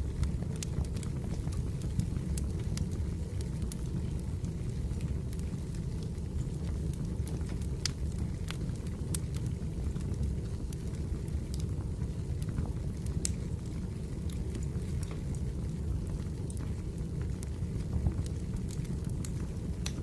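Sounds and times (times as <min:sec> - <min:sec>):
wood crackling and popping: 0:00.0 - 0:20.0.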